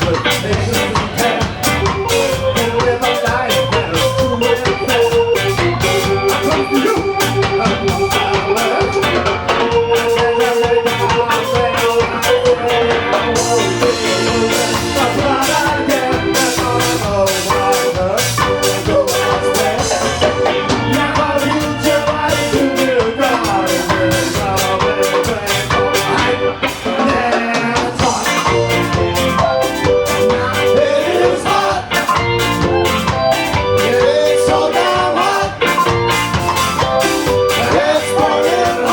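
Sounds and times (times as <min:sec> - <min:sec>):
live ska band playing: 0:00.0 - 0:38.9.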